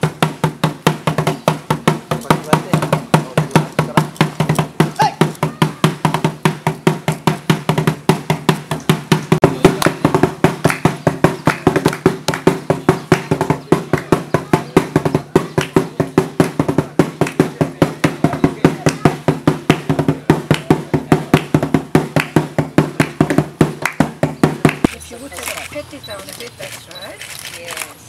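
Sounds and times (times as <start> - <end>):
fast percussion strokes: 0.0 - 26.6.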